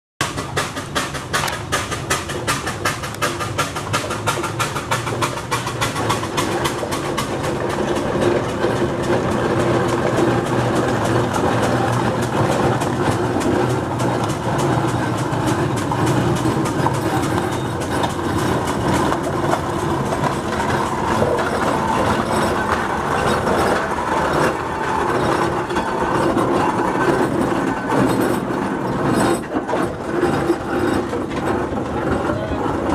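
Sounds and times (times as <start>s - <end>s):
steam roller mechanical clatter: 0.2s - 32.9s.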